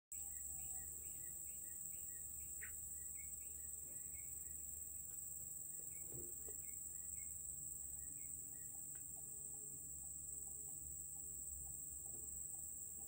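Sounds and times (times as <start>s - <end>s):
bird chirping: 0.1s - 13.0s
high-pitched insect drone: 0.2s - 13.0s.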